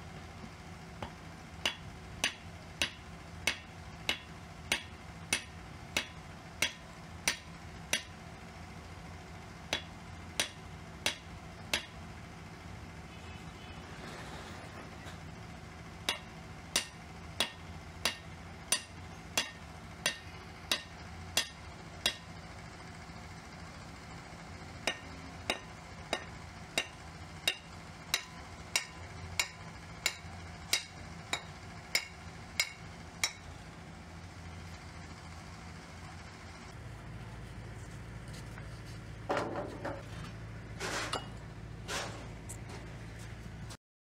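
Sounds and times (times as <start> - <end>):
steady low hum: 0.0 - 43.8.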